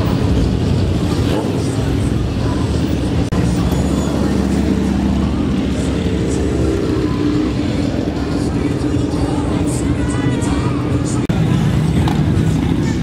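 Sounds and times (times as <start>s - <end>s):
motorcycle engines at low revs: 0.0s - 13.0s.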